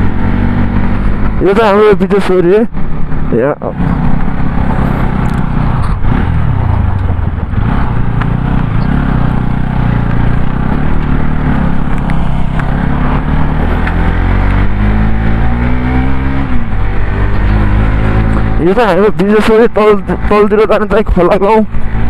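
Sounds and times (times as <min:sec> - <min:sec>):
vehicle engine revving while driving: 0:00.0 - 0:22.0.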